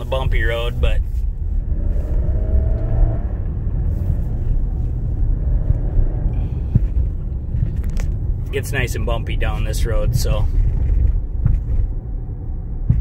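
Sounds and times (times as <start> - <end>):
car going over bump: 0.0 - 13.0
road and engine rumble: 0.0 - 13.0.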